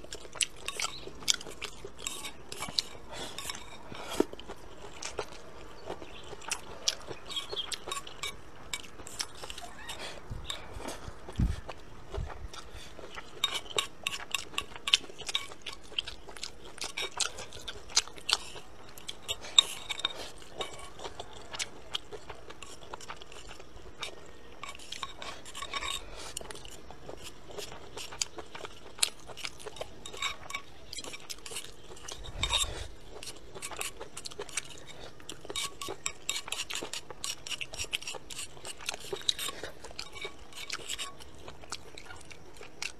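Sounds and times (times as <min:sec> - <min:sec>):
chewing: 0:00.0 - 0:42.9.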